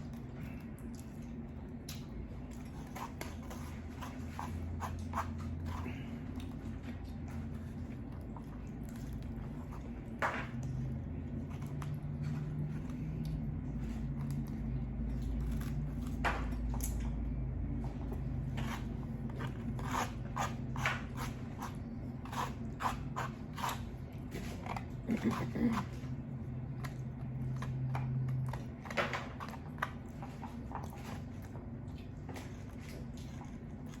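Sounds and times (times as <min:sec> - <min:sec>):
person chewing noodles: 0:00.0 - 0:34.0
steady low hum: 0:00.0 - 0:34.0.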